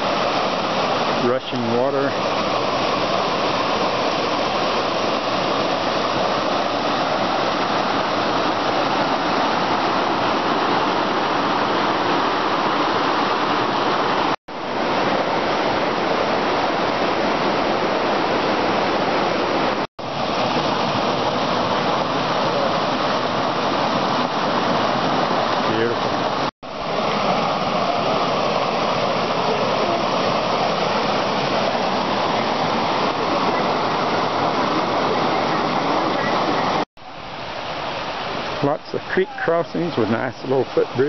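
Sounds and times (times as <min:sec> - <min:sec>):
creek rushing over boulders: 0:00.0 - 0:41.0.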